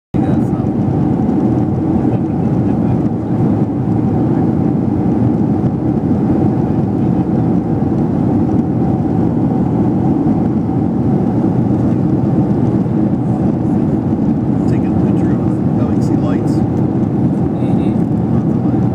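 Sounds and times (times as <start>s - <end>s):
airplane cabin drone: 0.2s - 18.9s.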